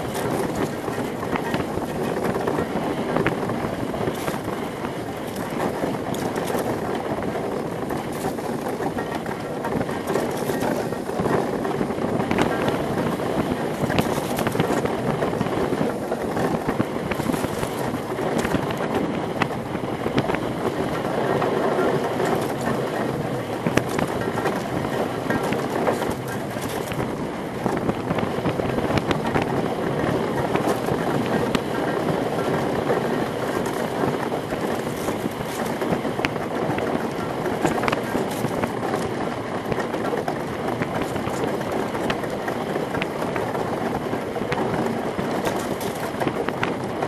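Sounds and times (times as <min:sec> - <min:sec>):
runners sliding over ice: 0:00.0 - 0:19.6, 0:28.4 - 0:47.0
runners clicking on rough ice: 0:00.0 - 0:47.0
wind on rig: 0:00.0 - 0:47.0.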